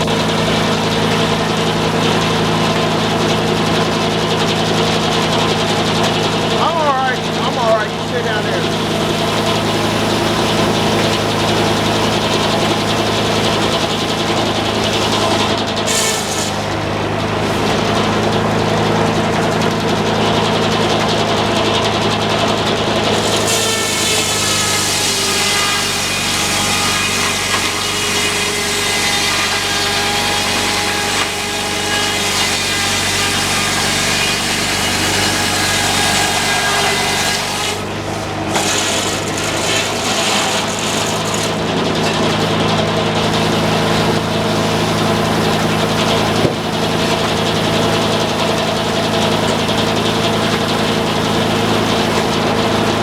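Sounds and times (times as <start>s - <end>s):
saw cutting wood with ringing whine: 0.0s - 53.0s
sawmill engine running: 0.0s - 53.0s.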